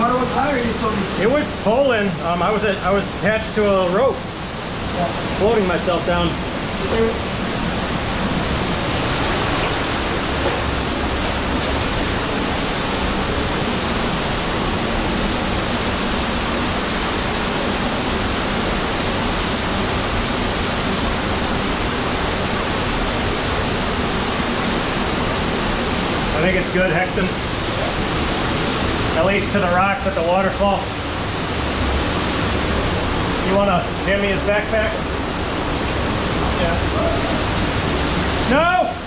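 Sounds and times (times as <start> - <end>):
stream rushing: 0.0 - 39.0.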